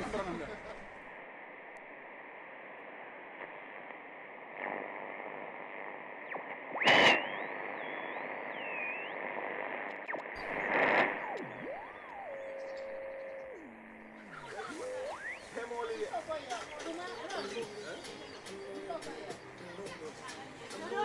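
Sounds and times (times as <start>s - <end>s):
radio static hiss: 0.0s - 21.0s
static crackling: 0.0s - 21.0s.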